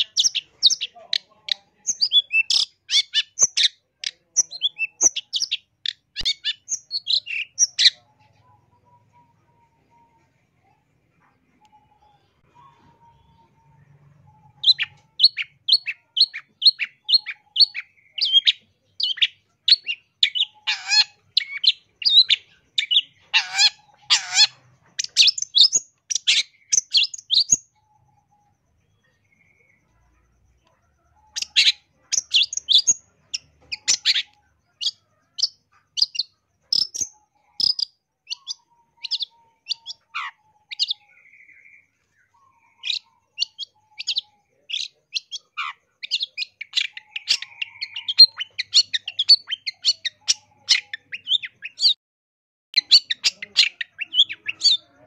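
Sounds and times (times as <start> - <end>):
bird singing sharp high chirps: 0.0 - 8.0, 11.7 - 29.8, 31.2 - 52.0, 52.8 - 55.0.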